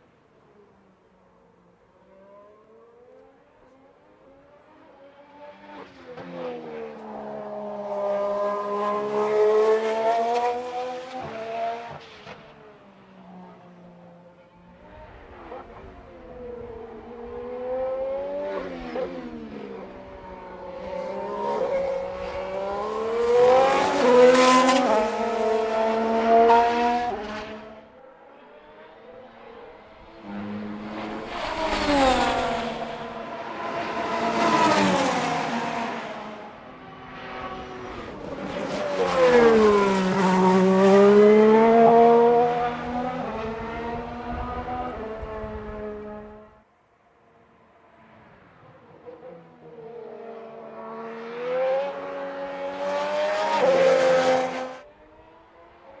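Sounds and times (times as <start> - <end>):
racing cars passing at speed: 0.1 - 56.0.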